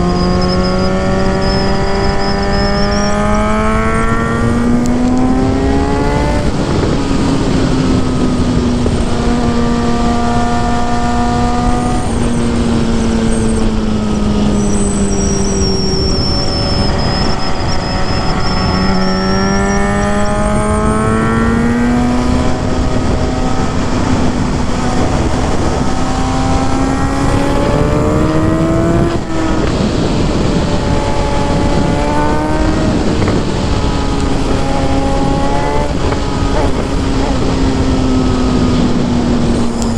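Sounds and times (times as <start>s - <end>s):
motorcycle engine running at high revs: 0.0s - 39.9s.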